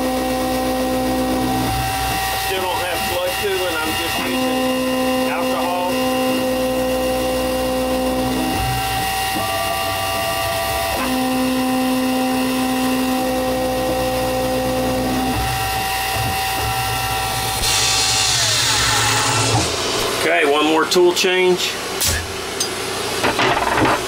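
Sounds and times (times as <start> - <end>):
milling machine motor whine: 0.0 - 24.0.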